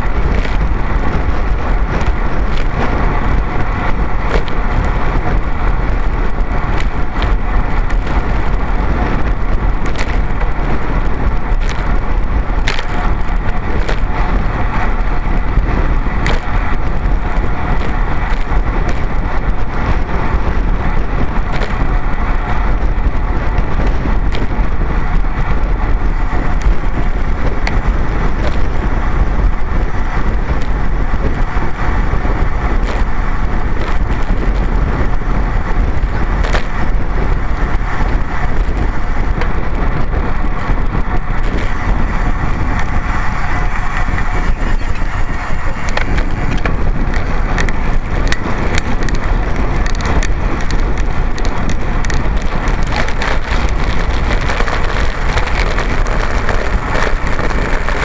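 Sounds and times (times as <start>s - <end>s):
sharp clicks from road bumps: 0.0s - 58.0s
tyre rumble on rough asphalt: 0.0s - 58.0s
wind buffeting microphone: 0.0s - 58.0s.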